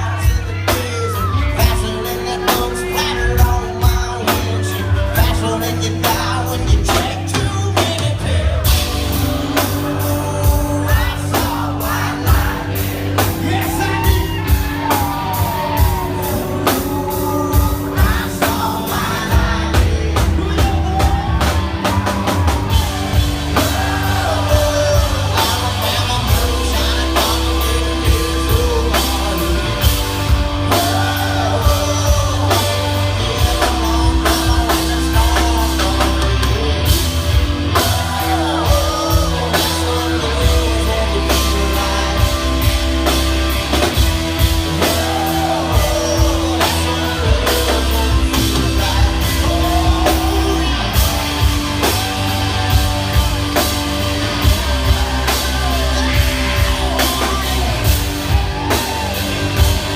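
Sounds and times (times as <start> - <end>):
country rock band playing live: 0.0 - 59.9
person singing: 0.0 - 59.9.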